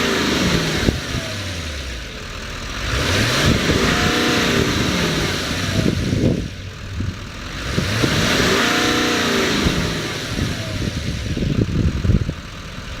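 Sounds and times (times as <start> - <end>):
truck engine revving and idling: 0.0 - 13.0.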